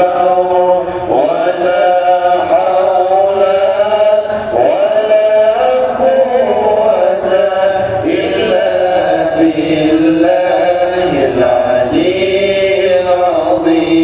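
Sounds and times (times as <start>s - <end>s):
devotional chanting voices: 0.0s - 14.0s.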